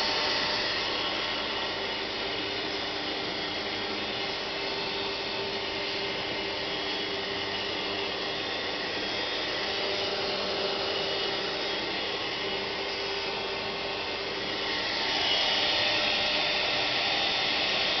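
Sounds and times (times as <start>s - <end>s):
router spindle whine and hiss: 0.0s - 18.0s.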